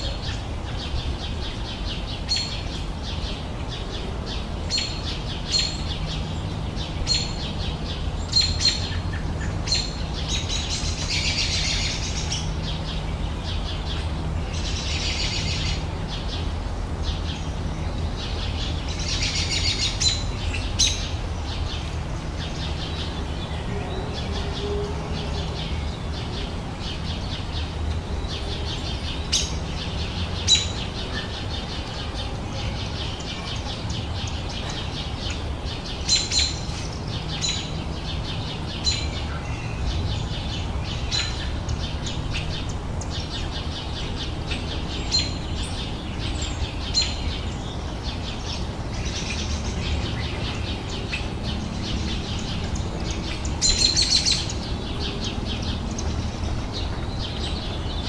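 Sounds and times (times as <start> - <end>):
birds chirping: 0.0 - 58.0
birds twittering: 0.0 - 58.0.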